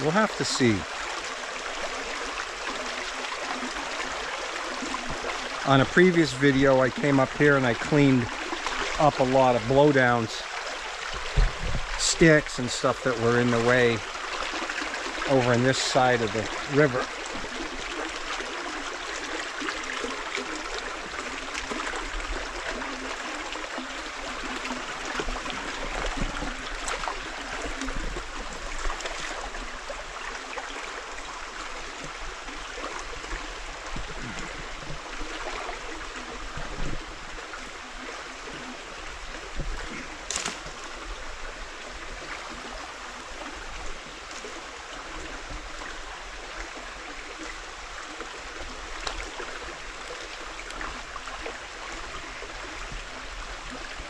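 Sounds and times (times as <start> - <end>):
river water rushing over stones: 0.0 - 54.0.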